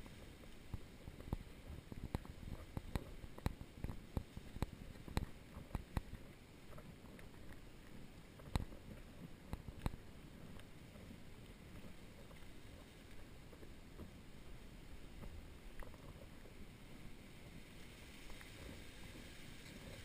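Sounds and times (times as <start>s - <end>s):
faint low rumble: 0.0s - 20.0s.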